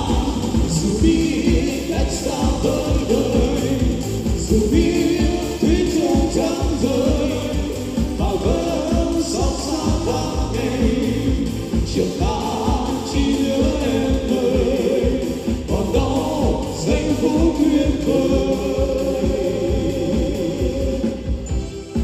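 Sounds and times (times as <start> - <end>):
pop ballad with steady beat: 0.0 - 22.0.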